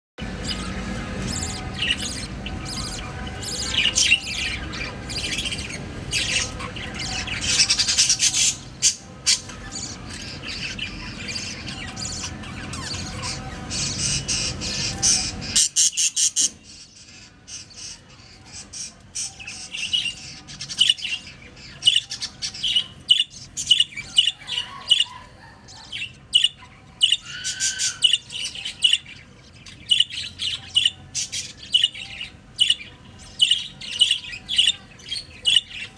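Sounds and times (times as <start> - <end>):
parrot squawking and chirping: 0.2 - 35.9
steady background noise: 0.2 - 35.9.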